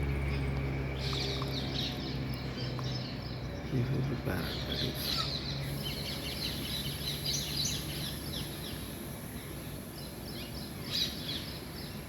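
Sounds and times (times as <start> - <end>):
birds chirping and calling: 0.0 - 12.0
low background hum: 0.0 - 12.0.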